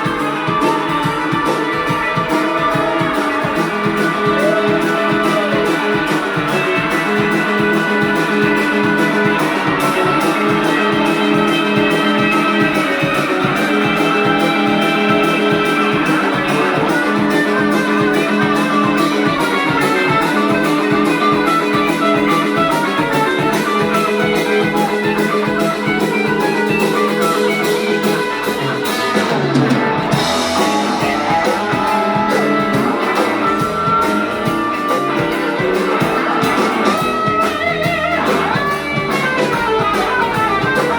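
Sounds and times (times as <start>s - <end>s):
electric guitar playing: 0.0s - 40.9s
steady drum beat: 0.0s - 40.9s.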